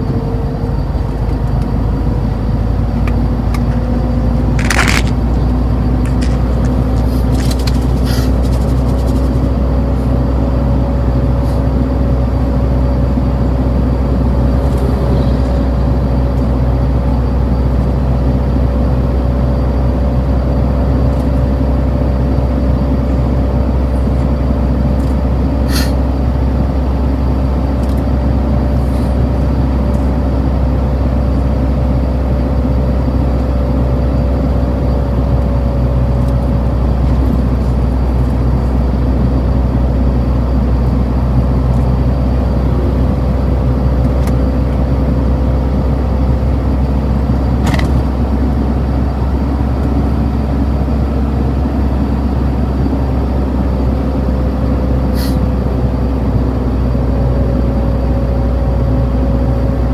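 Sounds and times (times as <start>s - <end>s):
steady low drone: 0.0s - 59.9s.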